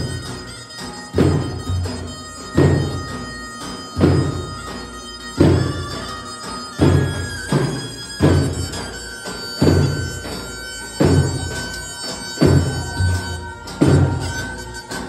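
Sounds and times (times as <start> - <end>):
heavy drum beats: 0.0 - 15.0.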